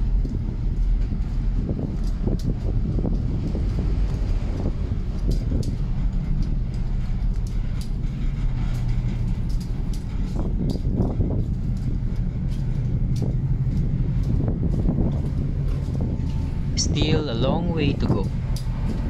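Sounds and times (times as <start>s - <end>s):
footsteps on steel deck: 0.0s - 19.0s
ship engines droning: 0.0s - 19.0s
wind: 0.0s - 19.0s.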